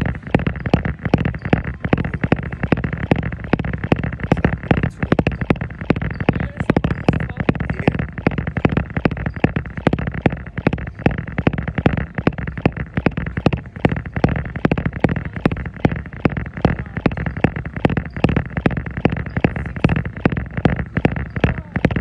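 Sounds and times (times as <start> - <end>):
footfalls on treadmill belt: 0.0 - 22.0
steady background noise: 0.0 - 22.0.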